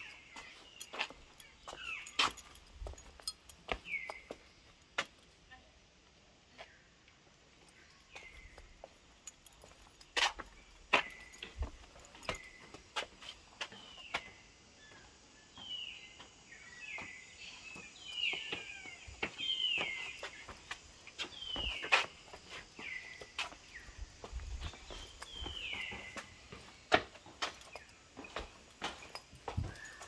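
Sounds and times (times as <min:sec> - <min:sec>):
birds calling: 0:00.0 - 0:04.9, 0:07.6 - 0:30.0
footsteps on stone paving: 0:00.0 - 0:05.4, 0:06.5 - 0:30.0.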